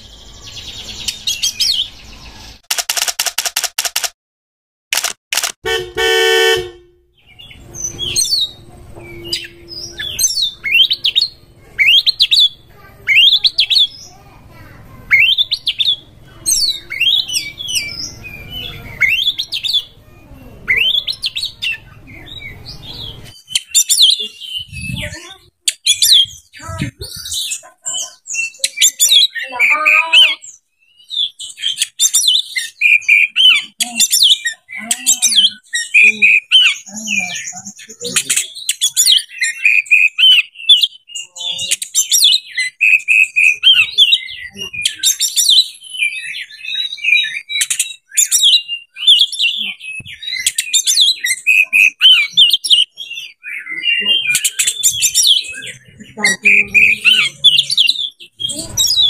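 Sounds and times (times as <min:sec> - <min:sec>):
bird whistling and warbling: 0:07.2 - 0:59.0.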